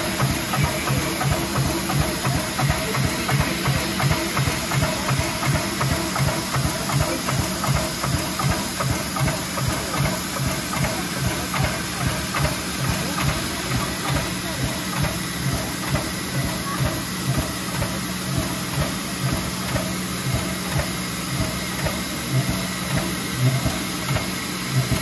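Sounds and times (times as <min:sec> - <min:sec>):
air pump pulsing beat: 0:00.0 - 0:25.0
steam locomotive hissing steam: 0:00.0 - 0:25.0.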